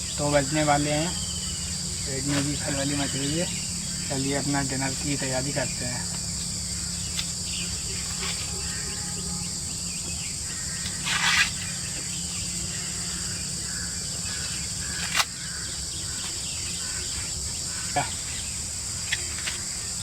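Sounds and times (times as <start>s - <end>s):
forest insects chorus: 0.0s - 20.0s.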